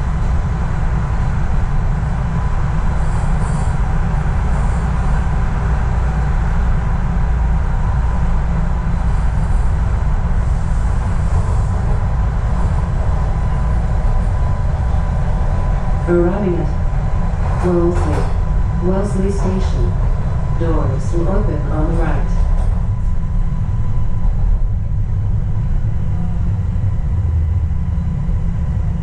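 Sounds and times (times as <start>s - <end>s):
subway train wheels rumbling: 0.0s - 29.0s.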